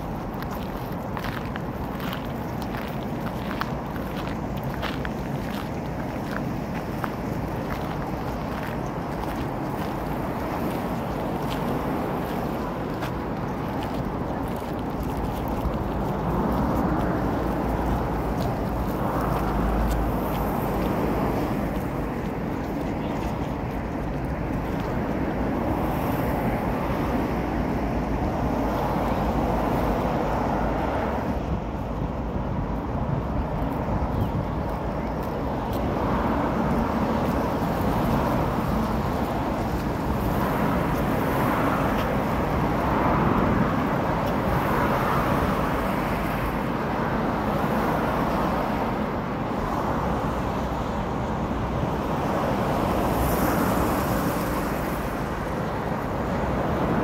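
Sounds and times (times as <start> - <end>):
cars passing: 0.0 - 57.0
steady traffic rumble: 0.0 - 57.0.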